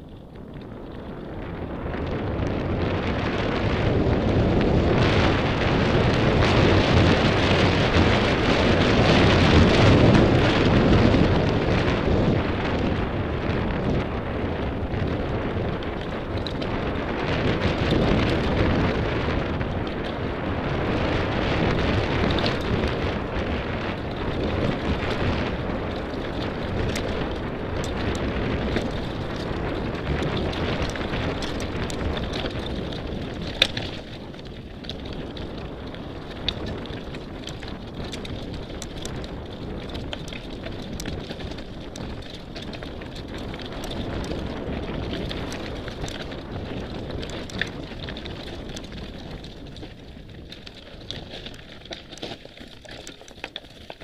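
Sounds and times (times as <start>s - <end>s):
bike clicks and rattles: 0.0s - 54.0s
bike tyres rumbling over rocks: 0.0s - 54.0s
wind rushing on microphone: 0.0s - 54.0s.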